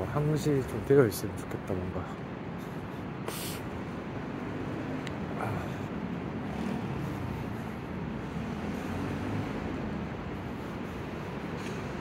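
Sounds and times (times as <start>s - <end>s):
city road traffic rumble: 0.0s - 12.0s
faint engine drone: 2.0s - 12.0s.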